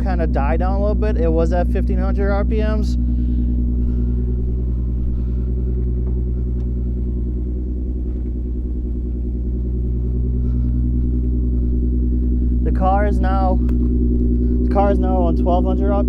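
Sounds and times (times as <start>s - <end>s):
car engine idling: 0.0s - 16.0s
deep exhaust drone: 0.0s - 16.0s.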